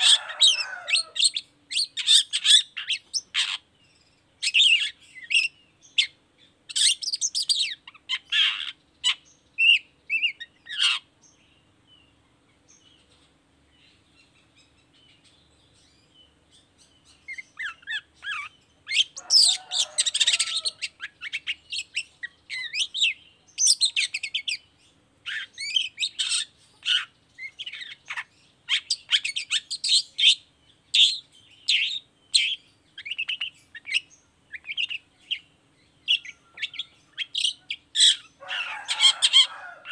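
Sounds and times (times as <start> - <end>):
bird singing shrill chattering: 0.0 - 11.4, 13.9 - 39.9.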